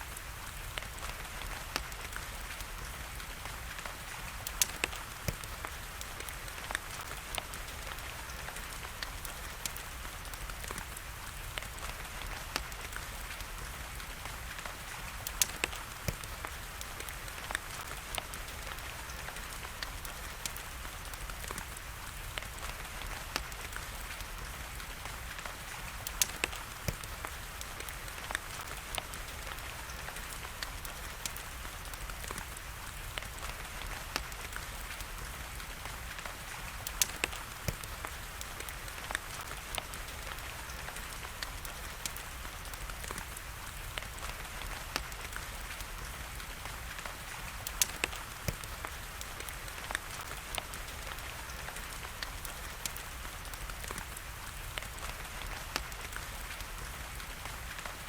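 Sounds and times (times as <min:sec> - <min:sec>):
fire crackling and popping: 0:00.0 - 0:58.0
steady rain hiss: 0:00.0 - 0:58.0.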